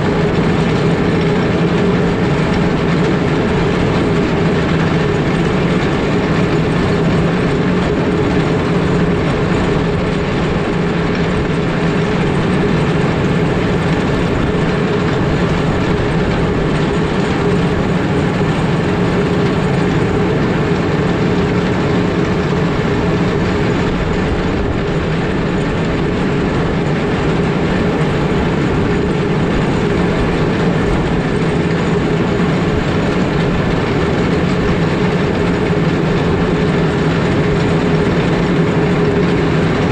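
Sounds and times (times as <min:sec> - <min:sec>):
grader engine rumble: 0:00.0 - 0:39.9.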